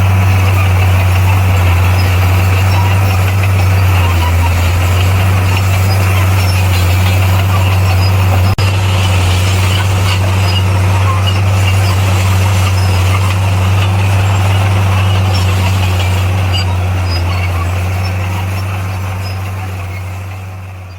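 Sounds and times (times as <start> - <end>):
bulldozer diesel engine running: 0.0 - 20.9.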